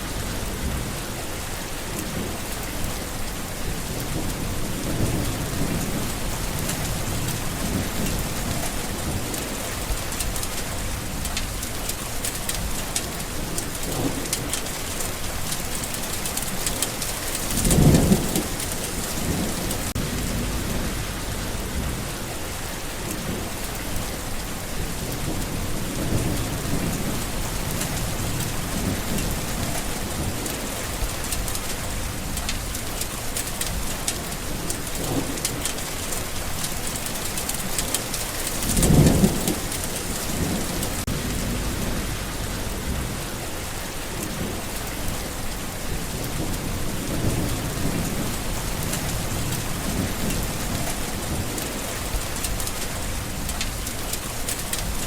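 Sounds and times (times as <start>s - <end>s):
low thunder rumble: 0.0s - 1.2s, 2.1s - 11.9s, 12.5s - 33.0s, 33.6s - 54.1s
heavy rain pattering: 0.0s - 55.0s.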